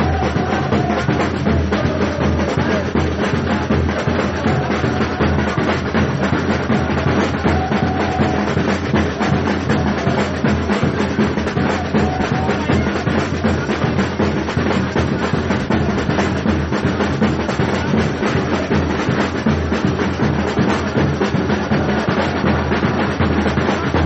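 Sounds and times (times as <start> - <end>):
samba drum group playing: 0.0 - 24.0.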